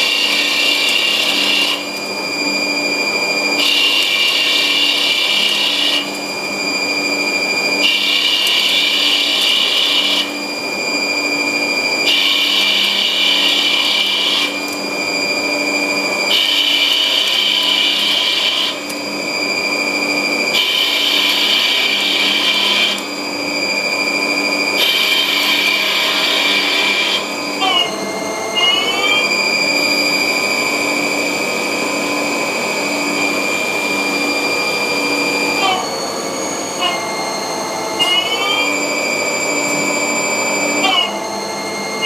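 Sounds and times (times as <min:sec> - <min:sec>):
lathe spindle whine: 0:00.0 - 0:42.0
lathe tool cutting metal: 0:00.0 - 0:42.0.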